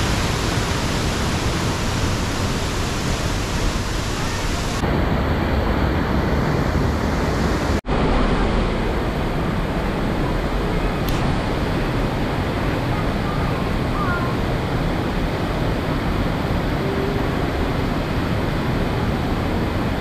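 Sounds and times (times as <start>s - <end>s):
rushing waterfall: 0.0s - 20.0s.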